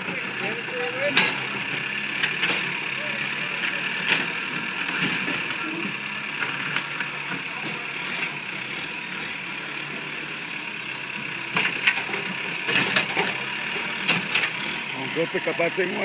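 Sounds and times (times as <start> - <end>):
street traffic engines: 0.0 - 16.0.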